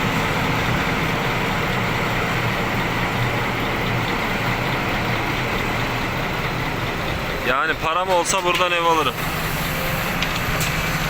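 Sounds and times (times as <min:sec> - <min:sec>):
diesel truck engine running: 0:00.0 - 0:11.0
road noise: 0:00.0 - 0:11.0.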